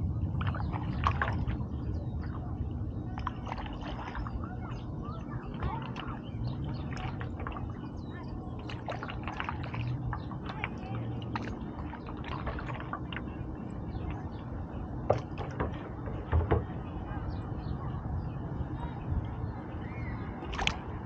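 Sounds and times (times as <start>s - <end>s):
paddle splashing in water: 0.4s - 16.8s, 20.4s - 21.0s.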